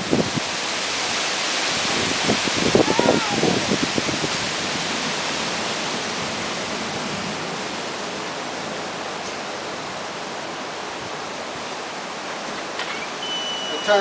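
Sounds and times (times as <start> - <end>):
wind and rain in trees: 0.0 - 14.0.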